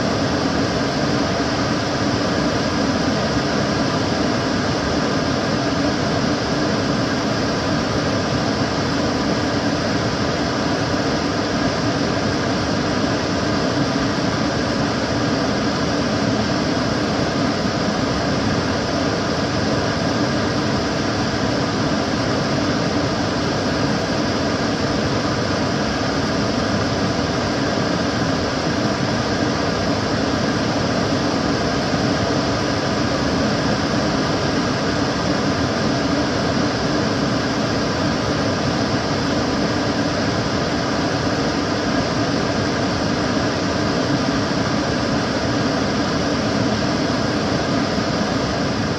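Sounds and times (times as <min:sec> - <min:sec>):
extractor fan whooshing: 0:00.0 - 0:48.9
faint fan hum: 0:00.0 - 0:48.9.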